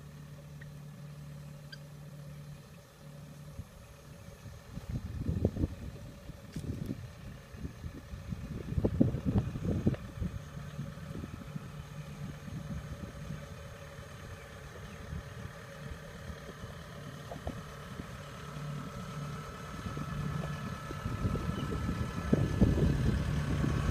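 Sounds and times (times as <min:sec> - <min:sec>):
combine harvester diesel engine: 0:00.0 - 0:23.9.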